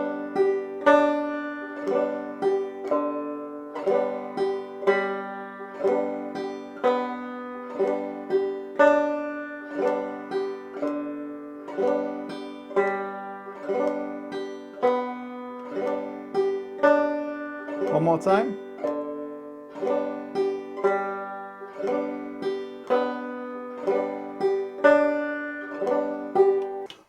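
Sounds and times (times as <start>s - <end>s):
banjo strumming: 0.0s - 27.0s.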